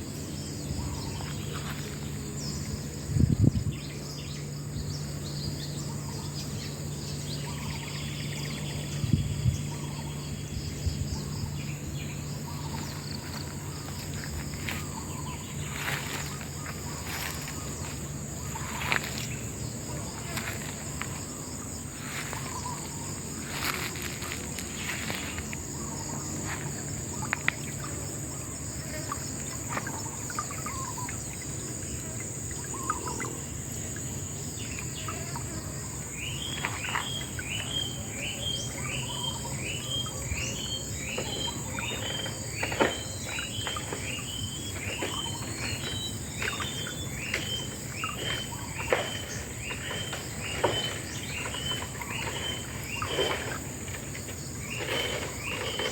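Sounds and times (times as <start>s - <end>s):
crickets droning: 0.0s - 55.9s.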